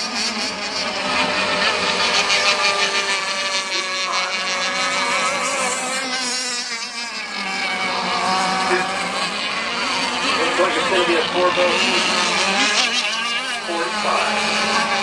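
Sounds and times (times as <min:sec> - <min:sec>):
model boat engines whining: 0:00.0 - 0:15.0.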